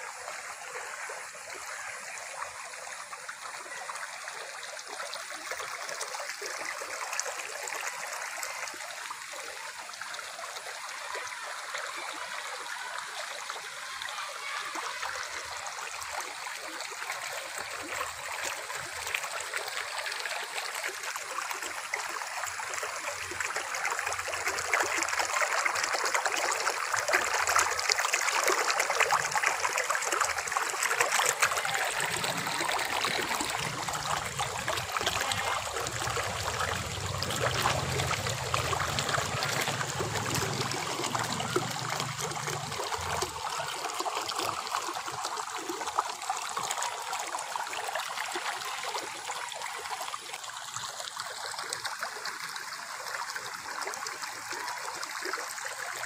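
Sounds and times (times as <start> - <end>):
water rushing along channel: 0.0 - 56.0.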